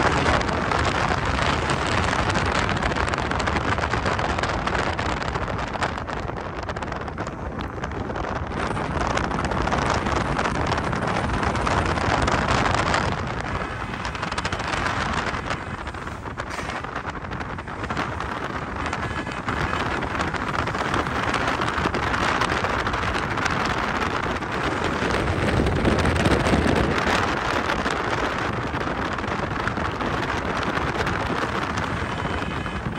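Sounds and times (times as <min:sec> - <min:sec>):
vehicle road and engine noise: 0:00.0 - 0:32.9
wind buffeting microphone: 0:00.0 - 0:32.9.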